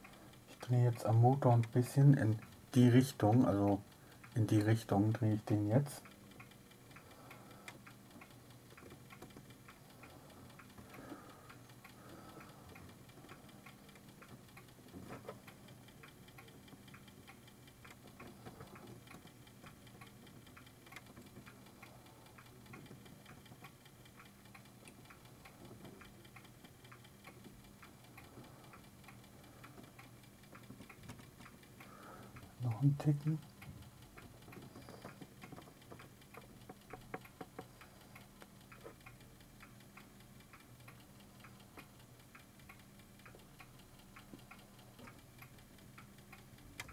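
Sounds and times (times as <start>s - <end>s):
floppy drive ticking: 0.0s - 46.9s
low steady hum: 0.0s - 46.9s.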